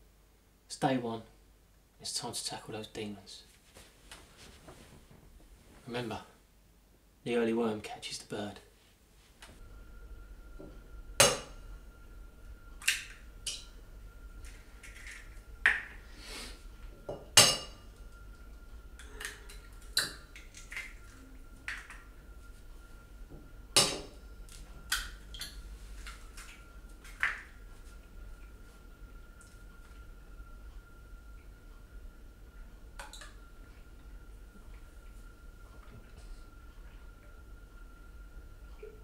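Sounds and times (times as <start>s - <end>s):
faint thin steady tone: 7.2s - 39.0s.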